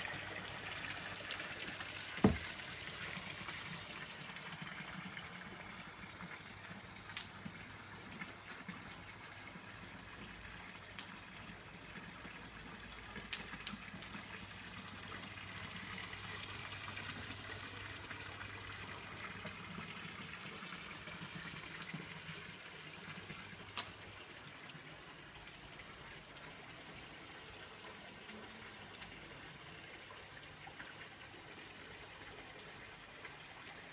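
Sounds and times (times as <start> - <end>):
water trickling and splashing into pool: 0.0 - 33.9.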